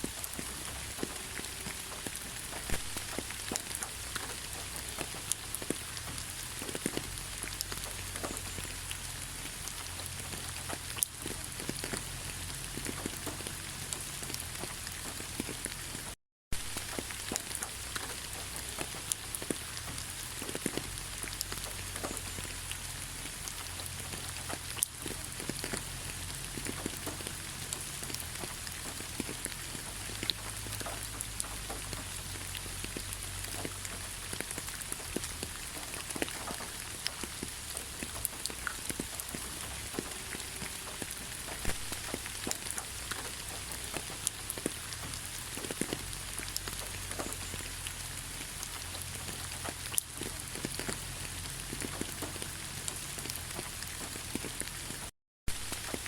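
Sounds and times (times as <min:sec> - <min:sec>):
raindrops ticking: 0:00.0 - 0:56.0
steady rain hiss: 0:00.0 - 0:56.0.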